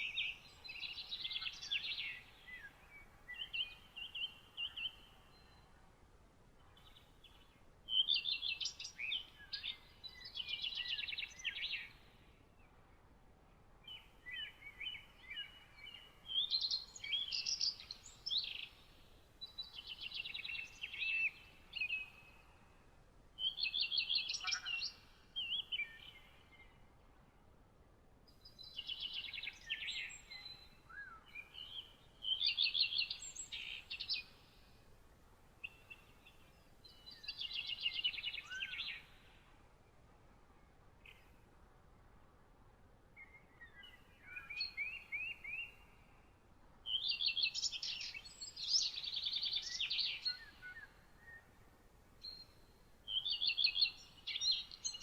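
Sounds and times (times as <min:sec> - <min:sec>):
songbird singing: 0:00.0 - 0:27.6, 0:28.3 - 0:55.0
faint background hiss: 0:00.0 - 0:55.0.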